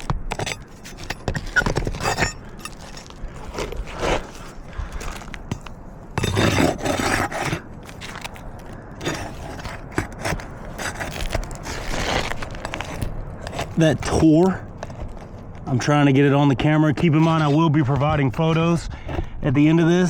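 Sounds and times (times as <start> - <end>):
roof shingle scraping and tearing: 0.0 - 19.5.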